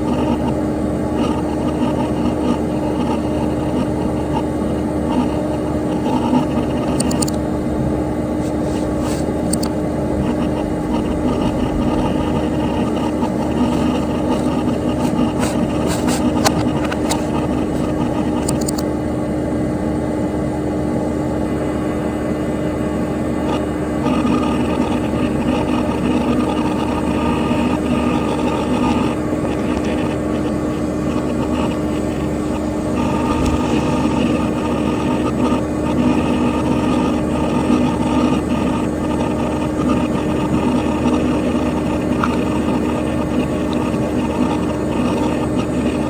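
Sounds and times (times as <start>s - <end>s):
computer fan and hard drive whirring: 0.0s - 46.0s
constant hum tone: 0.0s - 46.0s.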